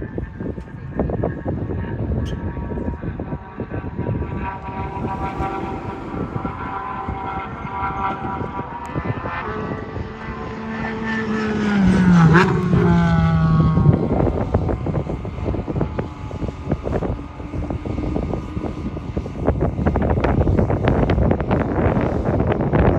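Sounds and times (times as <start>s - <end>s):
race car passing at speed: 1.0s - 22.9s.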